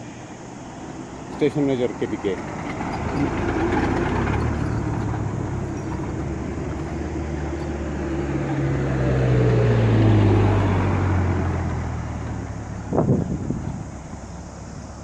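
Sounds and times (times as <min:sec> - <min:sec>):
diesel truck engine pulling away: 0:00.7 - 0:15.0.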